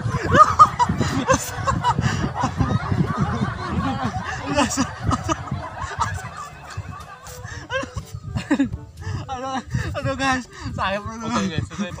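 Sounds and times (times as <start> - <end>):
young men laughing: 0.0 - 12.0.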